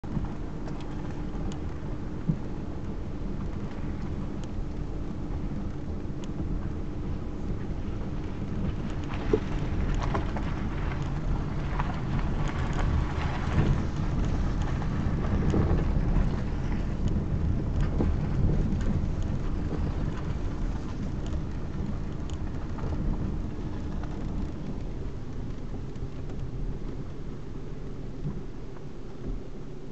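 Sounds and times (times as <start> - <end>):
car engine hum: 0.0 - 29.9.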